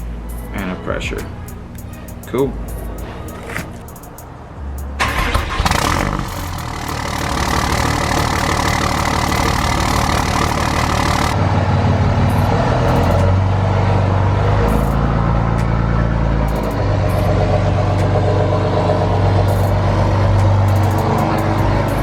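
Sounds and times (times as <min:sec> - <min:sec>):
truck engine running: 0:00.0 - 0:00.6, 0:01.2 - 0:22.0.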